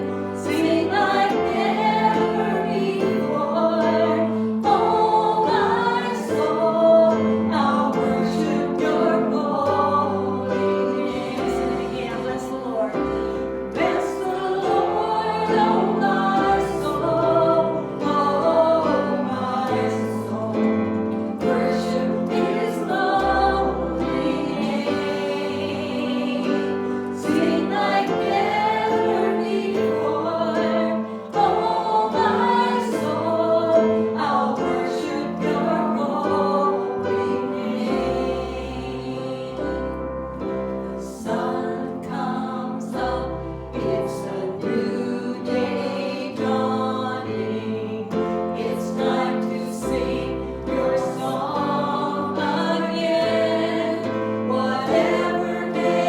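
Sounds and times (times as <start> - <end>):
group singing gospel song: 0.0 - 56.0.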